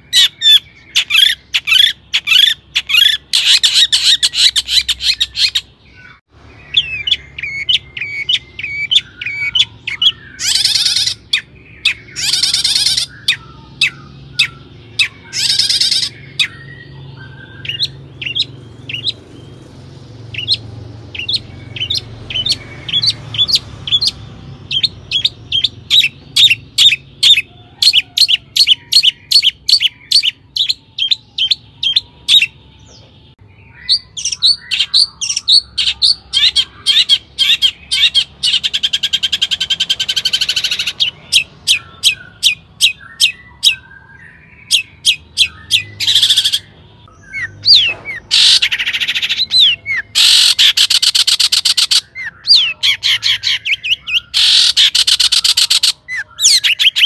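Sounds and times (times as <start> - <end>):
bird chattering and whistling: 0.0 - 57.0
harsh rasping bird calls: 0.0 - 57.0.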